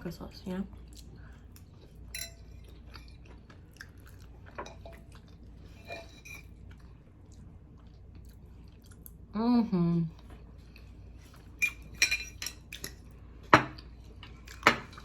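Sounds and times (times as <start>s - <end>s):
person chewing pasta: 0.7s - 9.3s, 10.1s - 15.0s.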